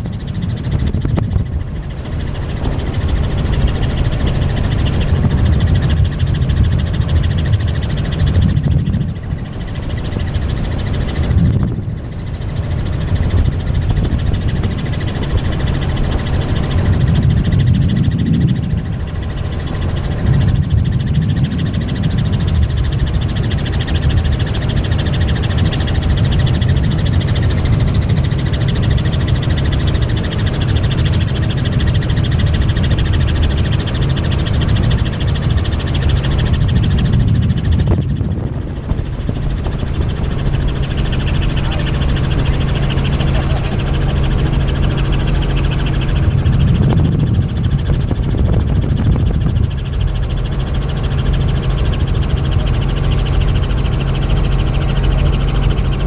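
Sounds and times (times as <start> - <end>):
constant high whine: 0.0 - 56.0
helicopter rotor and engine noise: 0.0 - 56.0.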